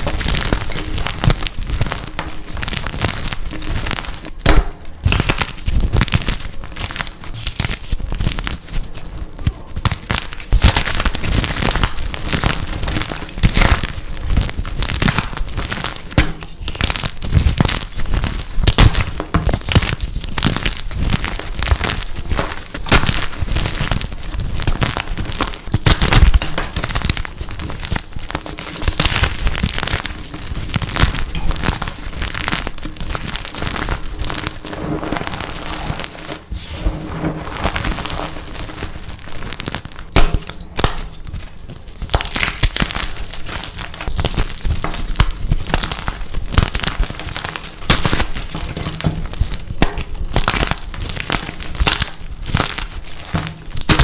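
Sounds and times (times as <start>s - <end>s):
chalk crunching and crumbling: 0.0s - 54.0s
sharp chalk crack: 0.0s - 54.0s.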